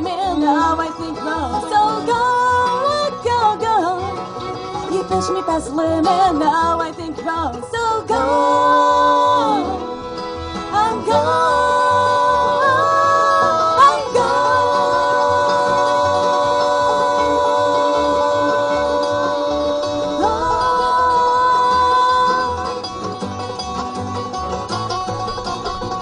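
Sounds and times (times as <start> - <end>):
acoustic guitar: 0.0 - 26.0
banjo: 0.0 - 26.0
fiddle: 0.0 - 26.0
mandolin: 0.0 - 26.0.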